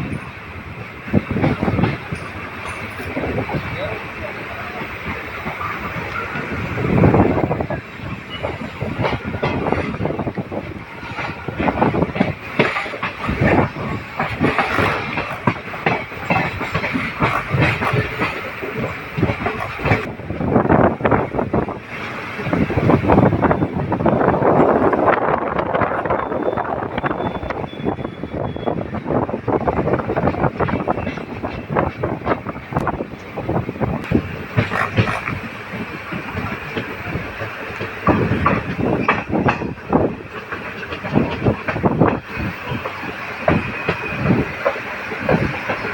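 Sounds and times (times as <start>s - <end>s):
train rumble: 0.0s - 45.9s
train wheels clattering over rails: 0.0s - 45.9s.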